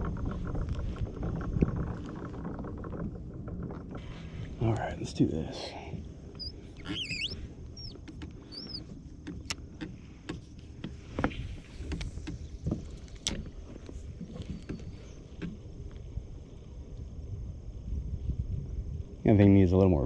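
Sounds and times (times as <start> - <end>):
wind and water against hull: 0.0 - 20.0.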